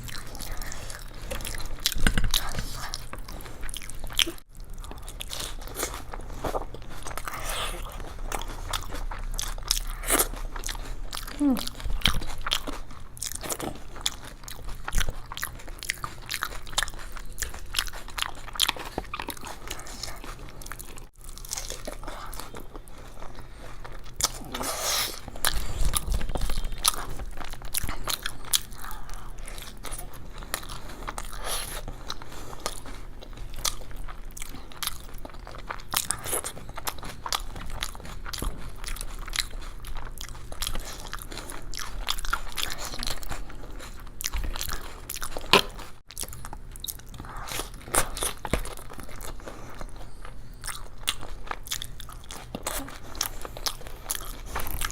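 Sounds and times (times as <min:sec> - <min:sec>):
crunchy food chewing: 0:00.0 - 0:54.9.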